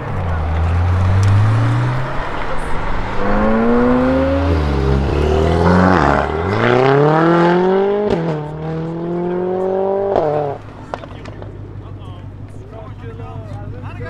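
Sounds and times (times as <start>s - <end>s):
exhaust crack on upshift: 0.0s - 14.0s
sports car accelerating: 0.0s - 14.0s.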